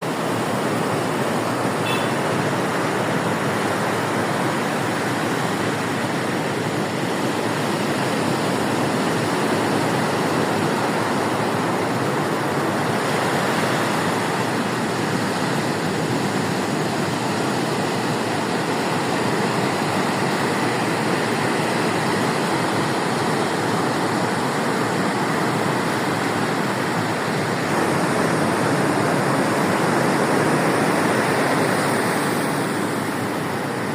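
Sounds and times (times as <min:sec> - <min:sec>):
waves breaking: 0:00.0 - 0:33.9.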